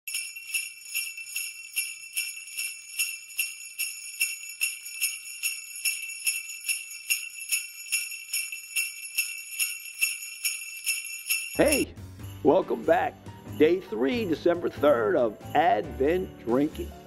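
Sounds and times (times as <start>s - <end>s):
jingle bells shaken: 0.0s - 17.0s.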